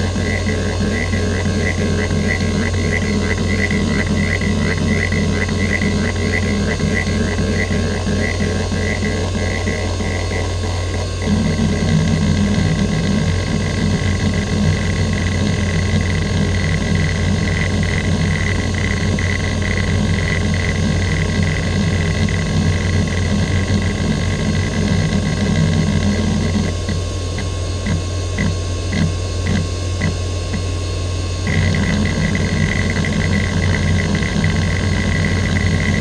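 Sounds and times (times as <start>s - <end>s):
hard drive humming: 0.0s - 36.0s
hard drive seek chatter: 0.0s - 36.0s.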